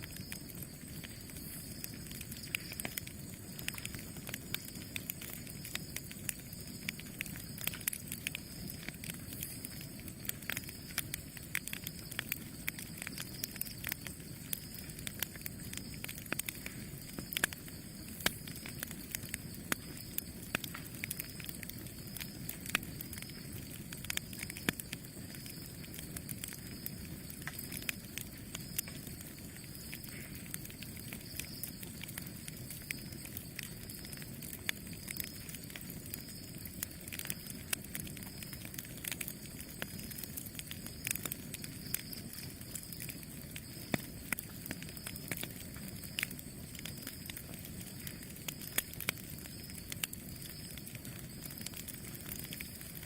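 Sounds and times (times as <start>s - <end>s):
campfire flames rushing: 0.0s - 53.0s
wood crackling and popping: 0.0s - 53.0s.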